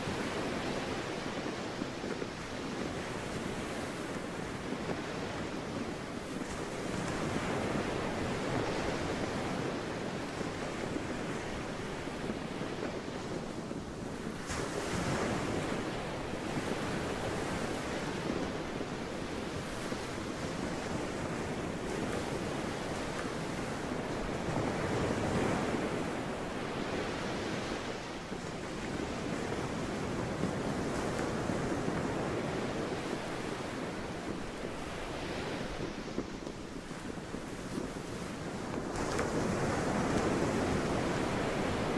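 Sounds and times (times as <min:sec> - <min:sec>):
sea waves washing in: 0:00.0 - 0:41.9.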